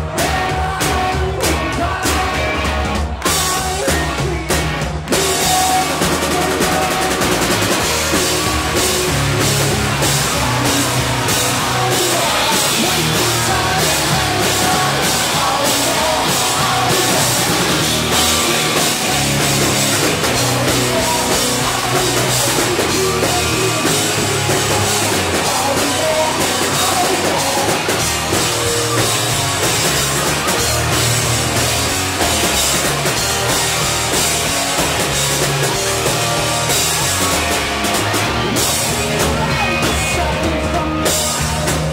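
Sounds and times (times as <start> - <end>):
drum kit: 0.0 - 41.9
electric bass: 0.0 - 41.9
electric guitar: 0.0 - 41.9.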